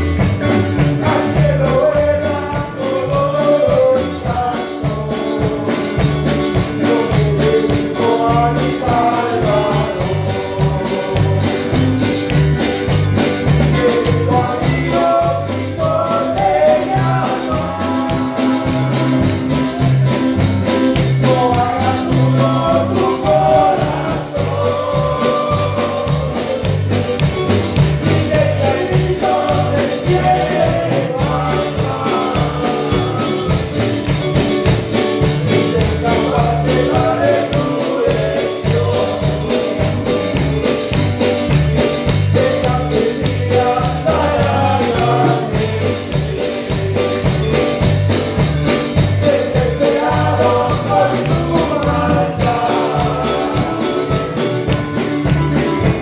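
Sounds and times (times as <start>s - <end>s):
men singing a hymn: 0.0s - 56.0s
rhythmic bass line: 0.0s - 56.0s
shaken percussion: 0.0s - 56.0s.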